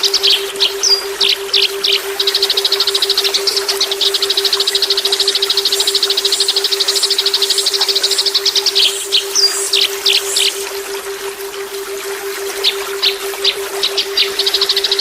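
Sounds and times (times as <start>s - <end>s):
pulsing low electronic tone: 0.0s - 15.0s
songbird rapid trill: 0.0s - 15.0s.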